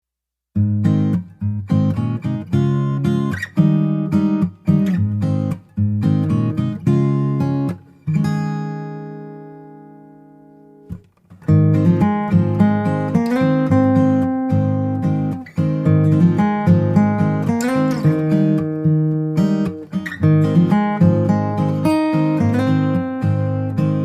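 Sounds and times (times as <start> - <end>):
acoustic guitar strumming: 0.6 - 24.0.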